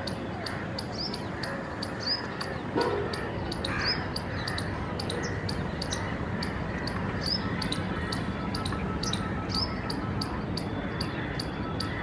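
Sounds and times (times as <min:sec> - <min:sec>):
birds chirping: 0:00.0 - 0:12.0
city background hum: 0:00.0 - 0:12.0.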